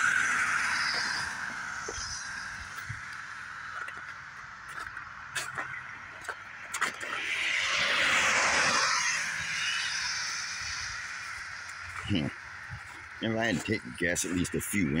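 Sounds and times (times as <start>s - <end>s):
car tyre noise passing: 0.0s - 15.0s.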